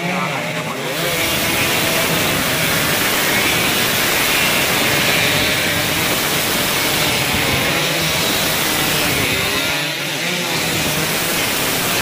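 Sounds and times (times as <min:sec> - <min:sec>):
racing motorcycles revving: 0:00.0 - 0:12.0.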